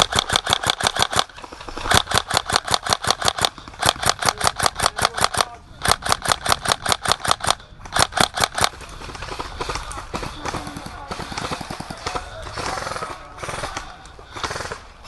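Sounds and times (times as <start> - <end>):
airsoft gun firing bursts: 0.0 - 15.0.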